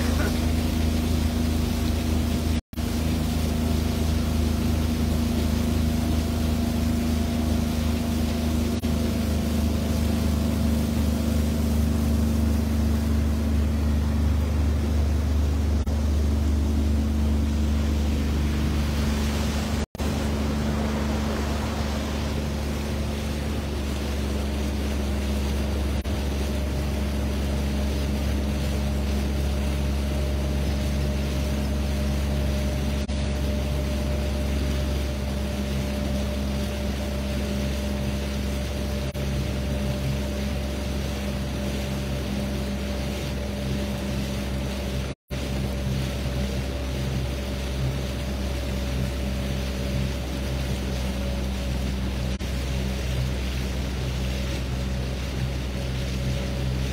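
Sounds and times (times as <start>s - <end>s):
motorboat engine droning: 0.0s - 56.9s
water rushing along hull: 0.0s - 56.9s.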